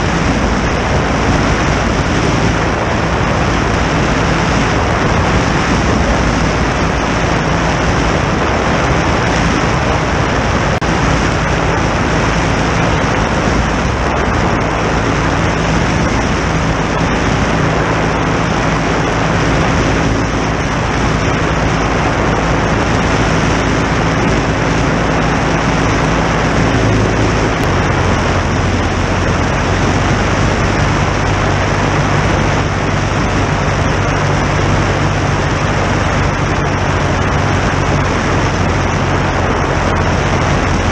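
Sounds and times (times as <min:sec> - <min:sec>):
ultralight engine and propeller: 0:00.0 - 0:40.9
wind rushing over microphone: 0:00.0 - 0:40.9.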